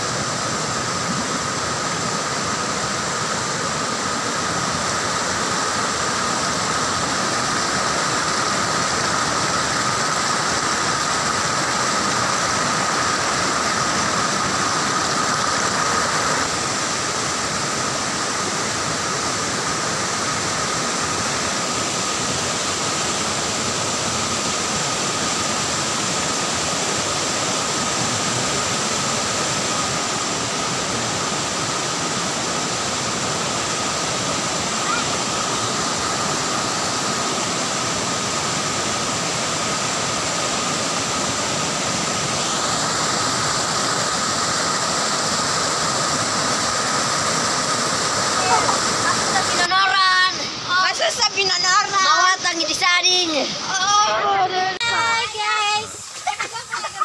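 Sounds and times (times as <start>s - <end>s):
river rushing over boulders: 0.0s - 57.0s.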